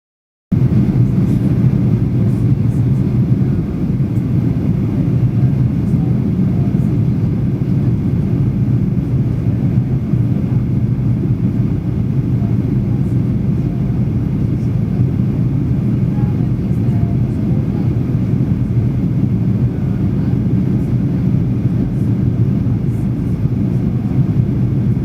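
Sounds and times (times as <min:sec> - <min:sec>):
airliner cabin rumble: 0:00.5 - 0:25.0.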